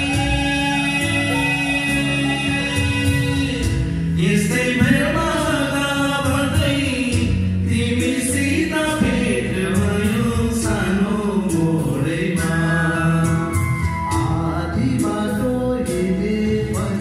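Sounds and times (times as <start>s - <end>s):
low musical accompaniment: 0.0s - 17.0s
men singing: 0.0s - 17.0s.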